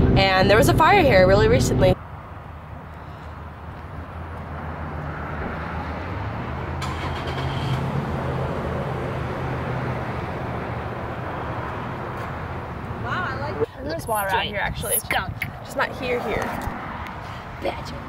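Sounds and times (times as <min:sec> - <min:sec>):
car engine and tyre hum: 0:00.0 - 0:18.0.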